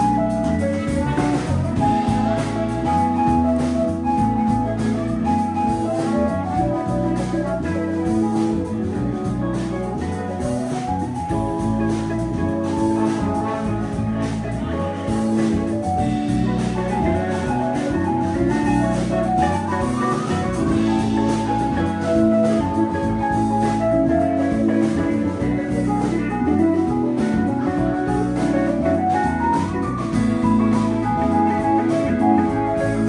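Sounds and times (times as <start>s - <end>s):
melody of held notes: 0.0s - 33.0s
steady bass line: 0.0s - 33.0s.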